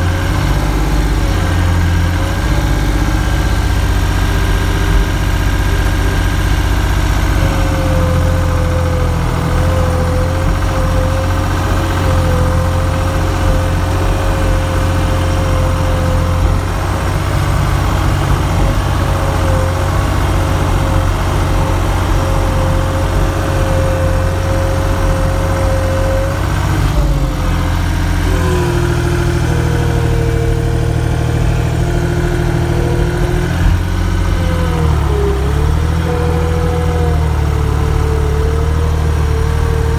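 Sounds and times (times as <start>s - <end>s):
engine running: 0.0s - 39.9s
thin wavering whine: 0.9s - 39.9s.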